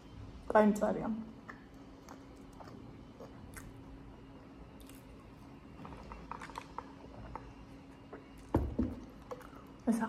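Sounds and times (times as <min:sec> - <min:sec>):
faint chewing: 0:01.4 - 0:09.8.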